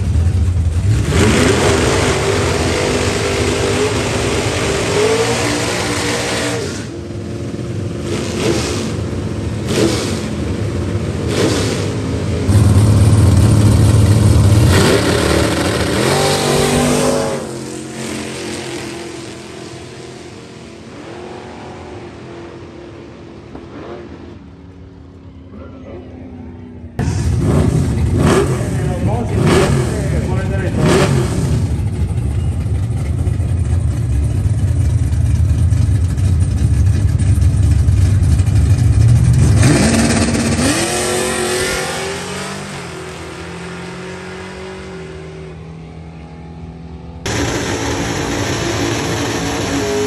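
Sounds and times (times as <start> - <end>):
race car engines revving: 0.0 - 50.0.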